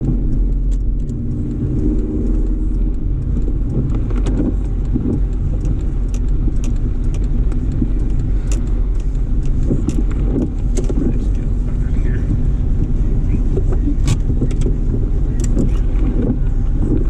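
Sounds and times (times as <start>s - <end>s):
car engine and road rumble: 0.0s - 17.0s
light clicks: 0.0s - 17.0s.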